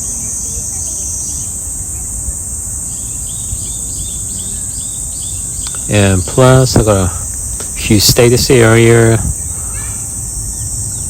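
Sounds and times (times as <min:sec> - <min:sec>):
cicadas droning: 0:00.0 - 0:11.0.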